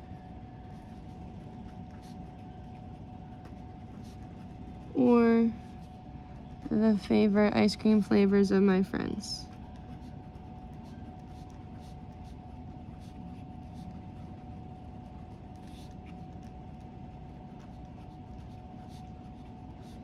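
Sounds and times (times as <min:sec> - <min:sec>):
room hum: 0:00.0 - 0:20.0
pen scratching on paper: 0:00.7 - 0:07.1, 0:09.4 - 0:20.0.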